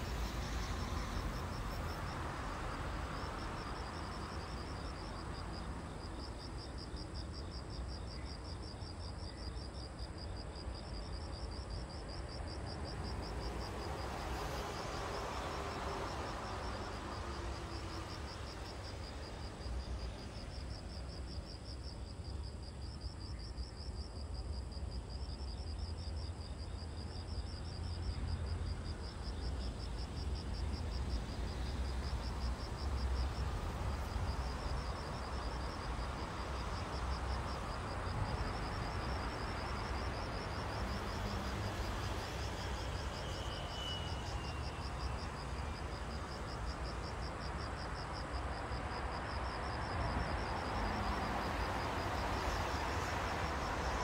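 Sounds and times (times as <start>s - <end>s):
background hiss: 0.0s - 54.0s
insects chirping: 0.0s - 54.0s.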